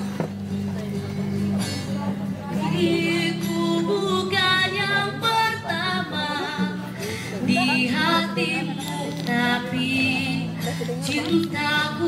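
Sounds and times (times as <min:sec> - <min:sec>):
woman singing into microphone: 0:02.3 - 0:12.0.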